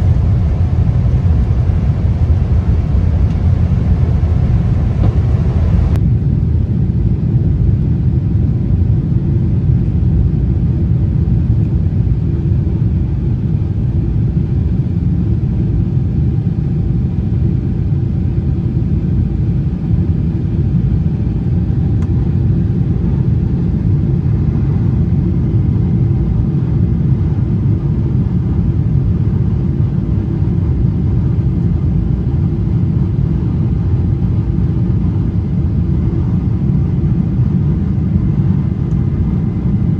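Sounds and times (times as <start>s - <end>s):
airliner cabin rumble in flight: 0.0s - 39.9s.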